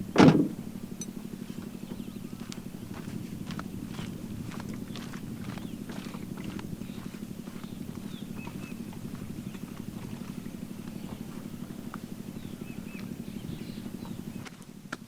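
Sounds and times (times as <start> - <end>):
low fluttering drone: 0.0 - 14.8.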